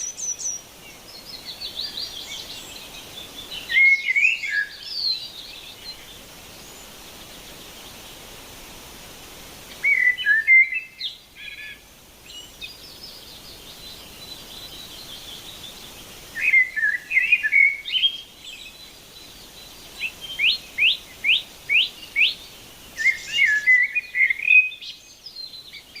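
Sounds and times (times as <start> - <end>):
songbirds warbling: 0.0 - 26.0
steady background hiss: 0.0 - 26.0.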